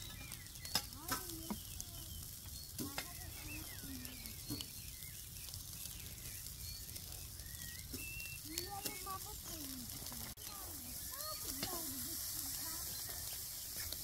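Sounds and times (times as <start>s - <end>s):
meat patties sizzling on grill: 0.0s - 14.0s
patties tapping on grill: 0.0s - 14.0s.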